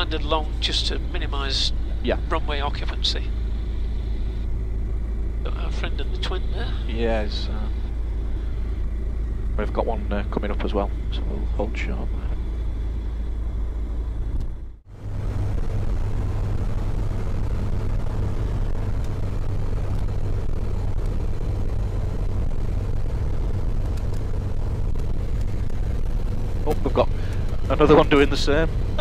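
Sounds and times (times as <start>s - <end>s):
aircraft engine running: 0.0s - 29.0s.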